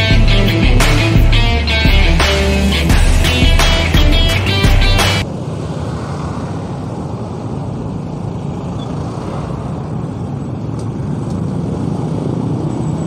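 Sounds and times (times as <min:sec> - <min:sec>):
bus: 0:00.0 - 0:13.0
road traffic noise: 0:00.0 - 0:13.0.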